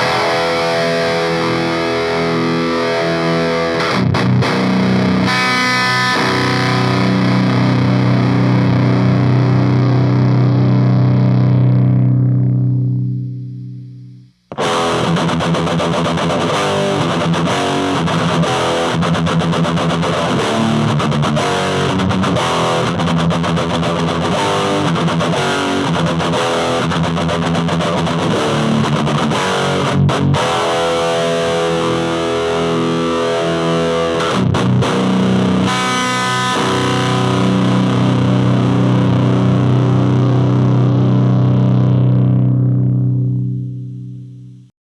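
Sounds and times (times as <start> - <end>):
distorted electric guitar rock riff: 0.0 - 44.7
guitar chord ringing out: 0.0 - 44.7.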